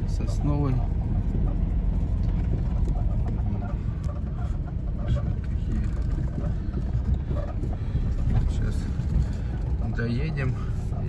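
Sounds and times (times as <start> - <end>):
car driving on dirt road: 0.0 - 11.0.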